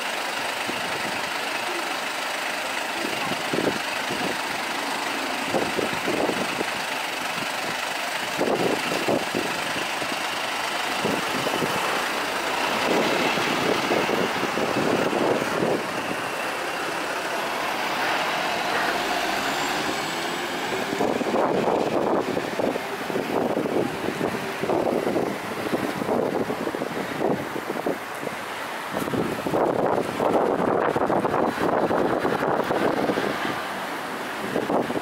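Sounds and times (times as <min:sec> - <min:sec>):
diesel engine idling and pulling away: 0:00.0 - 0:35.0.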